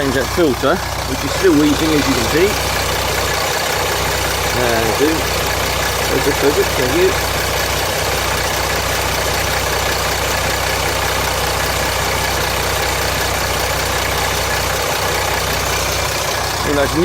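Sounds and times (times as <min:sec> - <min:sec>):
diesel engine idling: 0:00.0 - 0:17.0
engine rattle: 0:00.0 - 0:17.0.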